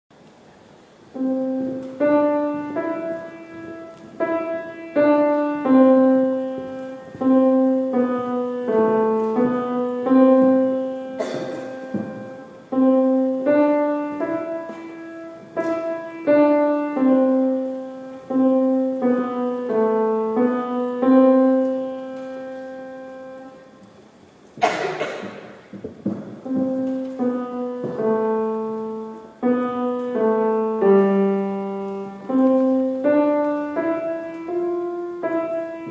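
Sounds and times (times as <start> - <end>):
grand piano played slowly: 0.1 - 35.9.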